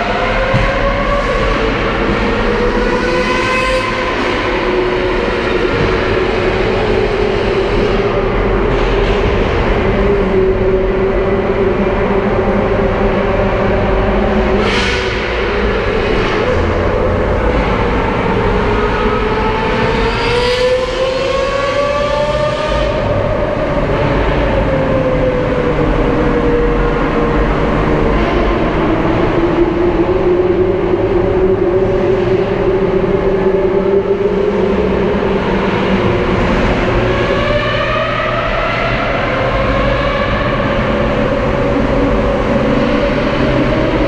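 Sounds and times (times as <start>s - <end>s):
sports car engine accelerating: 0.0s - 44.0s.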